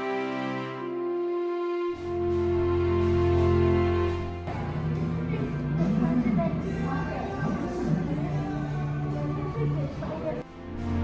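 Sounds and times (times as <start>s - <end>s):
slow held chords: 0.0s - 9.1s.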